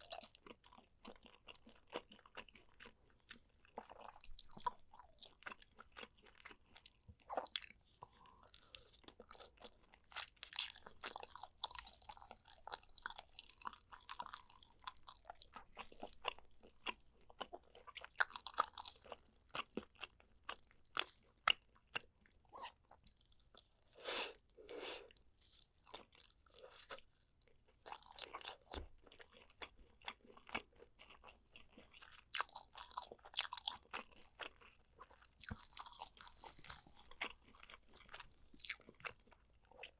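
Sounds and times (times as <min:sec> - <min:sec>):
chewing and biting: 0:00.0 - 0:24.1, 0:25.1 - 0:39.9.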